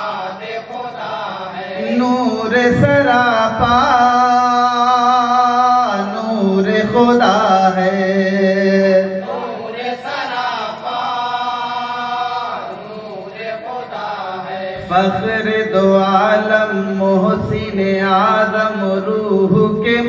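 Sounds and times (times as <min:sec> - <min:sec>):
men chanting into microphone: 0:00.0 - 0:20.0.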